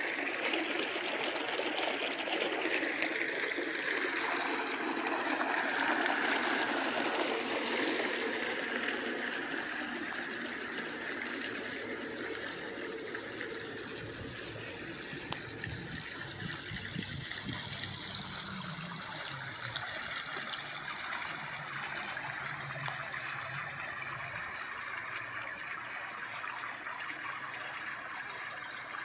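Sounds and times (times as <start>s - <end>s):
water trickling and splashing: 0.0s - 29.0s.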